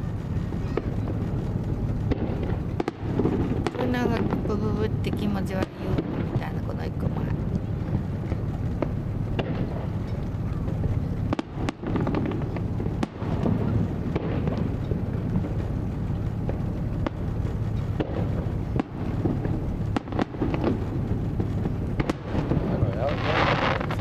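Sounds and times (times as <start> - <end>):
fireworks bangs and crackles: 0.0 - 24.0
low rumble of bursts: 0.0 - 24.0.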